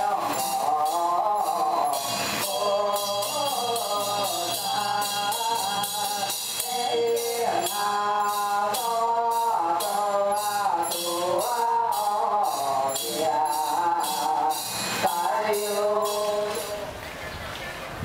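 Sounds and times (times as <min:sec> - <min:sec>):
steady percussion strokes: 0:00.0 - 0:17.0
melodic chanting: 0:00.0 - 0:17.4.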